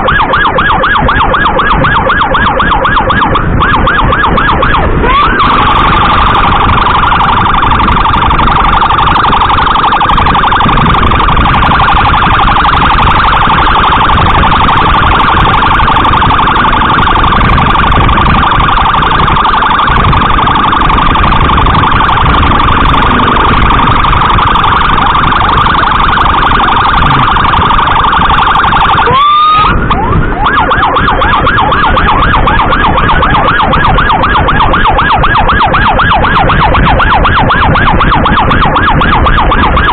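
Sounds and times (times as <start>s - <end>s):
electronic emergency siren: 0.0s - 39.9s
motorcycle road and engine noise: 0.0s - 39.9s.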